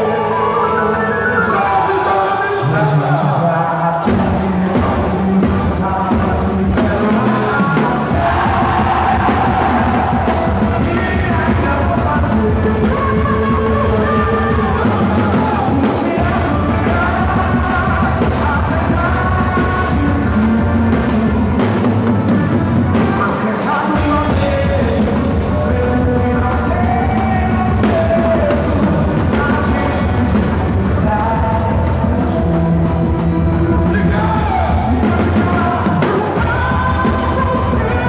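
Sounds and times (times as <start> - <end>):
loud music: 0.0 - 38.0
person singing: 0.0 - 38.0
steady drum beat: 4.1 - 38.0.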